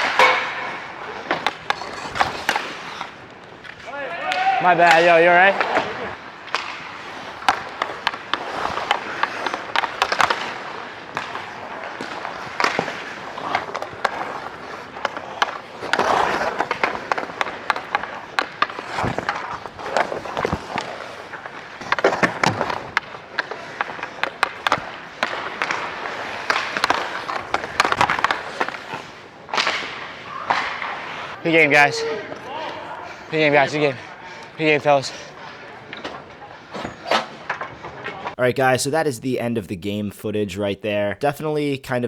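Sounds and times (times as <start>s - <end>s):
skates scraping ice: 0.0s - 38.4s
sticks and puck clacking: 0.0s - 42.0s.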